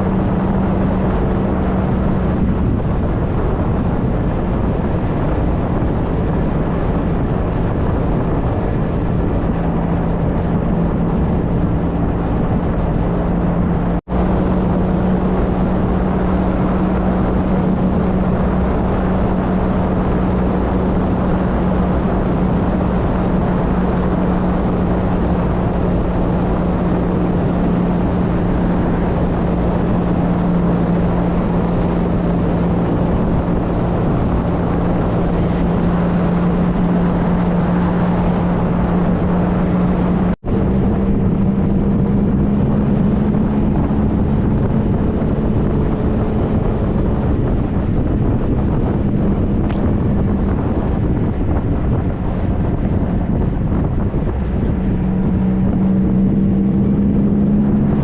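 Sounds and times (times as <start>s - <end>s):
motorcycle engine cruising: 0.0s - 58.0s
wind and road rush: 0.0s - 58.0s.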